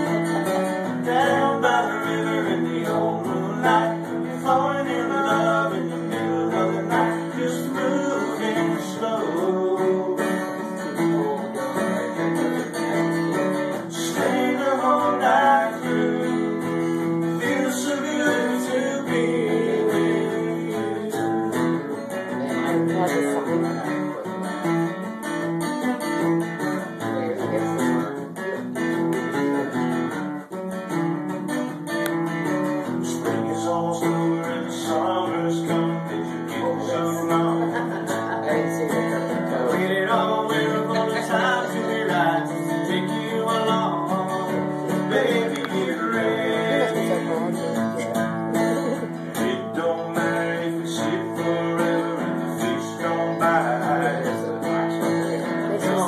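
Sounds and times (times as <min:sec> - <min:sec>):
man singing: 0:00.0 - 0:24.3, 0:32.6 - 0:56.0
acoustic guitar strummed: 0:00.0 - 0:56.0.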